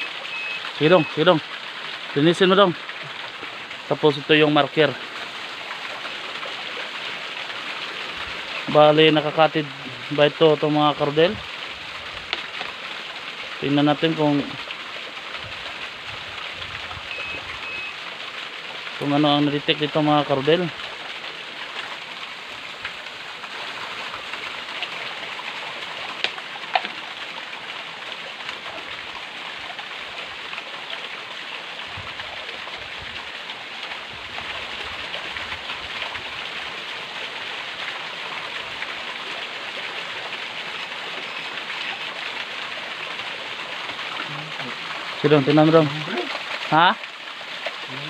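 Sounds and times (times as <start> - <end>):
running stream water: 0.0 - 48.0.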